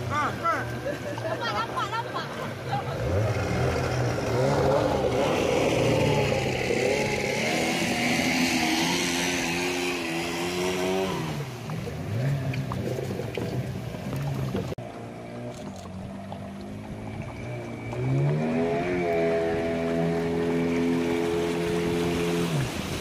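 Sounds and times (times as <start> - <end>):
boat outboard motors running: 0.0 - 23.0
water rushing along hull: 0.0 - 23.0.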